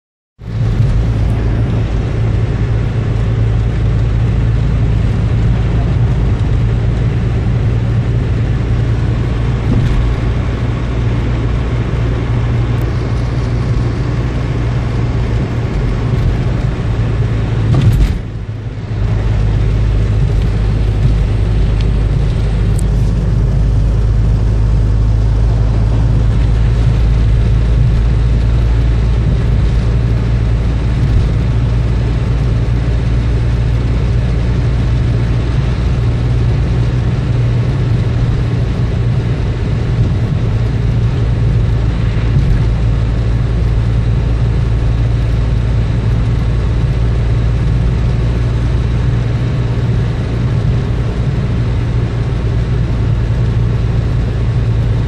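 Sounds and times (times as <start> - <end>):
car engine hum and road noise: 0.4 - 55.0.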